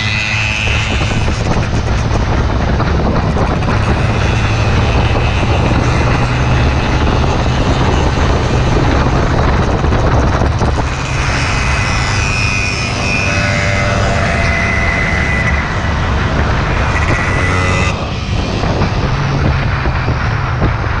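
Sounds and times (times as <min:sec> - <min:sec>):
motorcycle engine droning: 0:00.0 - 0:21.0
wind rushing over microphone: 0:00.0 - 0:21.0.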